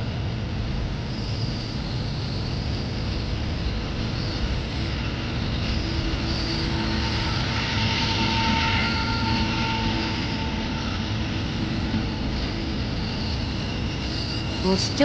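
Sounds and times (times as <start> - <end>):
faint whine: 0.0 - 15.0
jet engines rumbling: 0.0 - 15.0.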